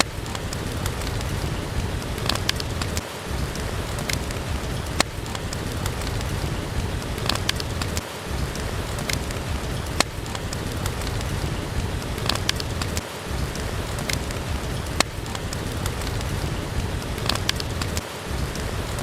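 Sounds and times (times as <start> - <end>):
steady rain hissing: 0.0 - 19.0
wood fire crackling: 0.0 - 19.0.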